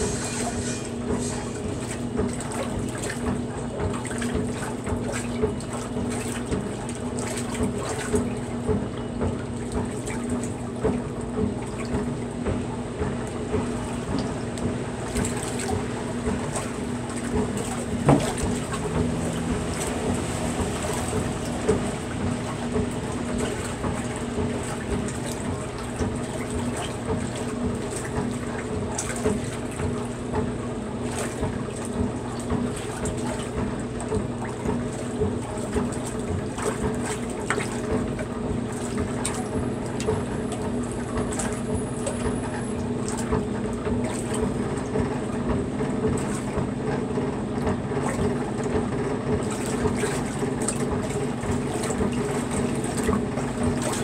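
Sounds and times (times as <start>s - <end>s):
washing machine hum: 0.0s - 54.0s
water sloshing and splashing: 0.0s - 54.0s.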